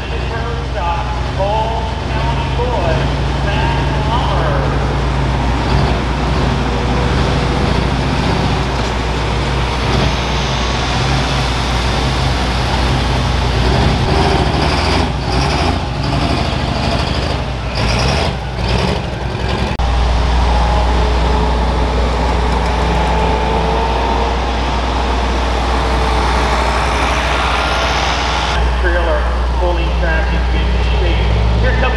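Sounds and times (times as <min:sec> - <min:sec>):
tractor engine running flat out: 0:00.0 - 0:31.9
tractor engine running steadily: 0:00.0 - 0:31.9.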